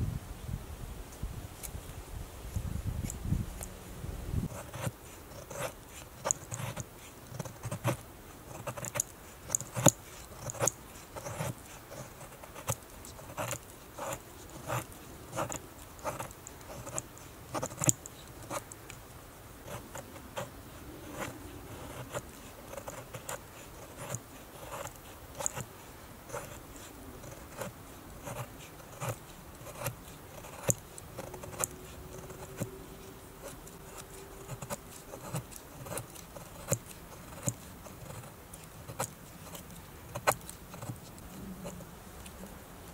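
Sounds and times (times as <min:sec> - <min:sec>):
knife shaving wood: 0:04.5 - 0:42.9.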